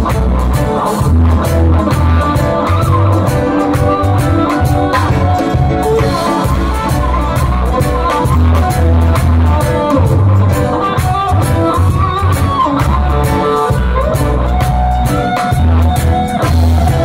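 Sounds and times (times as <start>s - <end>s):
heavy bass guitar line: 0.0s - 17.0s
live reggae band playing: 0.0s - 17.0s.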